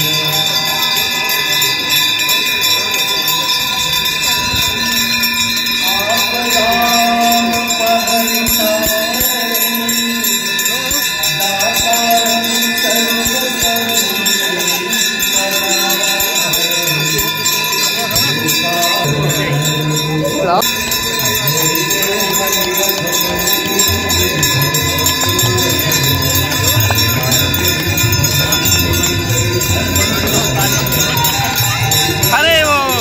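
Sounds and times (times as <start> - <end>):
many bells jangling: 0.0 - 33.0.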